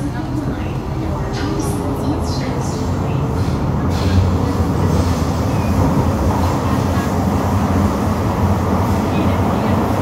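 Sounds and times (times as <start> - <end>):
metro train running on track: 0.0 - 10.0.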